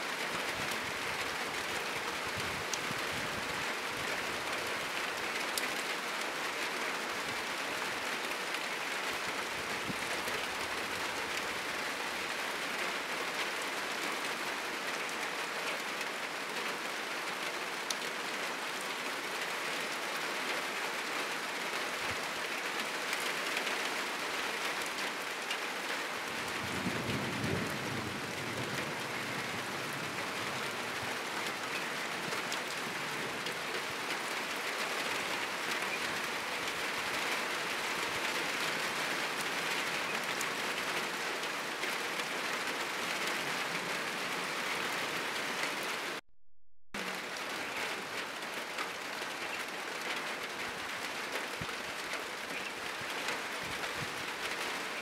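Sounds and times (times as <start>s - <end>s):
heavy rain on a roof: 0.0s - 46.2s, 47.0s - 55.0s.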